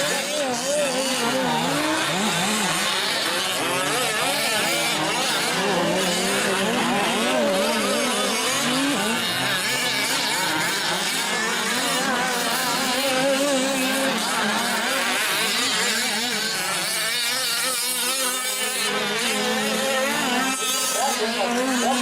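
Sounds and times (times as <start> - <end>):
small two-stroke engines revving: 0.0 - 22.0.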